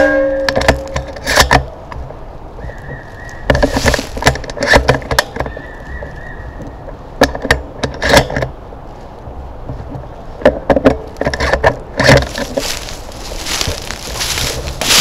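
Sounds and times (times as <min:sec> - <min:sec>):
dry brush and twigs crackling: 0:00.6 - 0:15.0.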